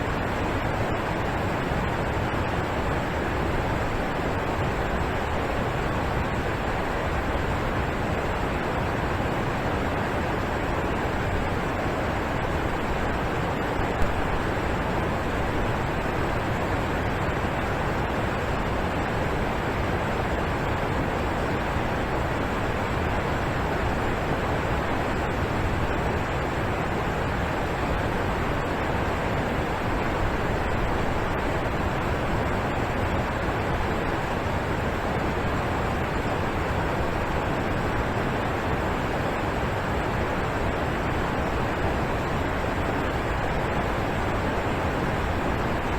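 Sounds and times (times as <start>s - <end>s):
waterfall roaring: 0.0s - 45.9s.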